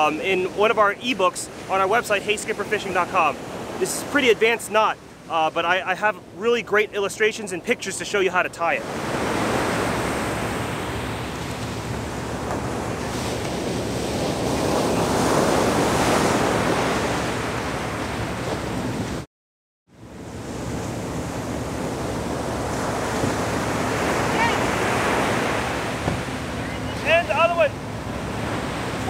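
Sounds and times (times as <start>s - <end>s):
ocean surf breaking: 0.0s - 19.3s, 20.0s - 29.0s.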